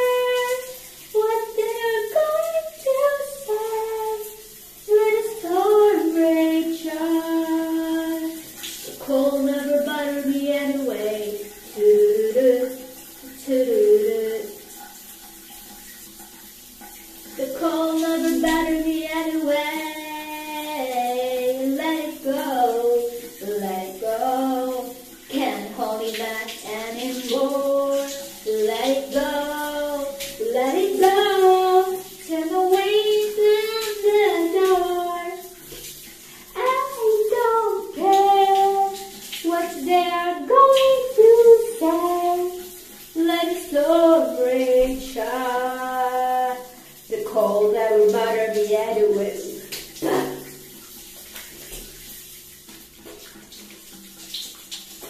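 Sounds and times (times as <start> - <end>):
woman singing: 0.0 - 14.6, 17.4 - 35.5, 36.6 - 50.4
shower running: 0.0 - 55.0.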